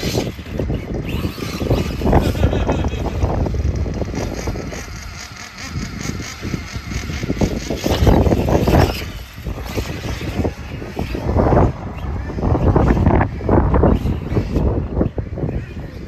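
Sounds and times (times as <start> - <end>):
rc buggy running on dirt: 0.0 - 16.0
wind buffeting microphone: 0.0 - 16.0.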